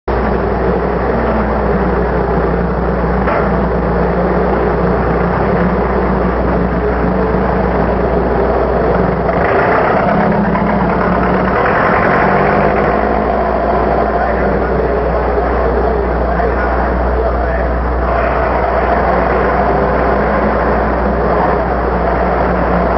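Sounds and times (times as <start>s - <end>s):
low hum: 0.0s - 22.9s
engine running: 0.1s - 22.9s.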